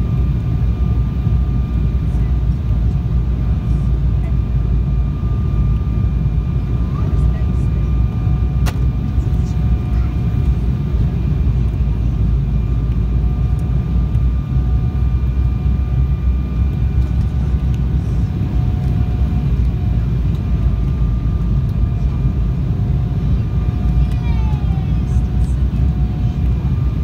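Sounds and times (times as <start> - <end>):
jet engine and airflow roar: 0.0 - 27.0.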